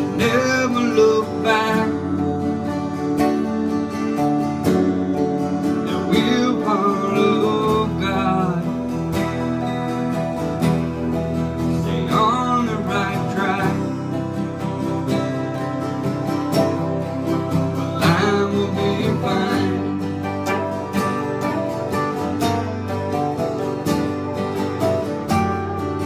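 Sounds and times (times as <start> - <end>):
acoustic guitars strumming: 0.0 - 26.0
electric guitar: 0.0 - 26.0.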